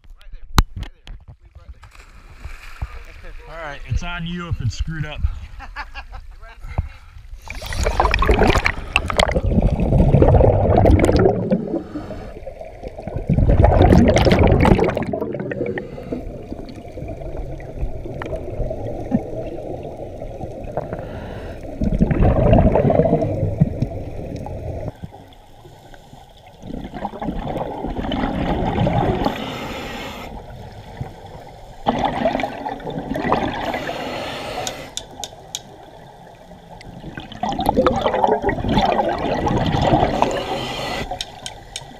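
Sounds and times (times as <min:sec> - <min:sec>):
underwater water noise: 0:06.7 - 0:41.9
underwater bubbles gurgling: 0:07.4 - 0:41.9.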